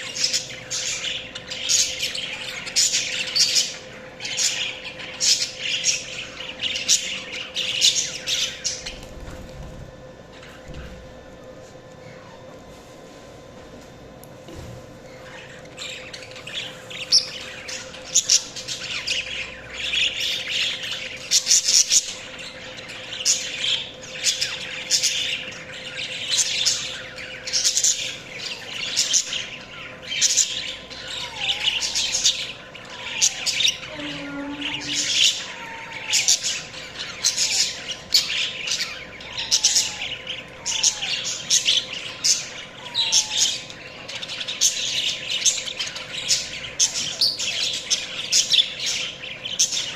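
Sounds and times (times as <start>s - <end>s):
budgerigars chirping and chattering: 0.0s - 11.0s, 15.1s - 49.9s.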